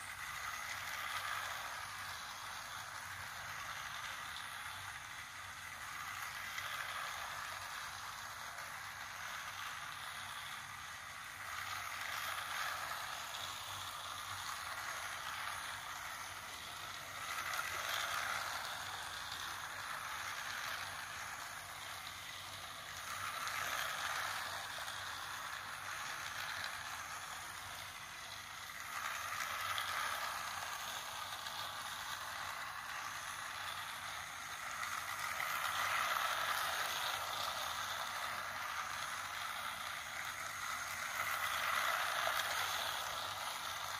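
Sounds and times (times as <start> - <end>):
toy train whirring: 0.0 - 43.9.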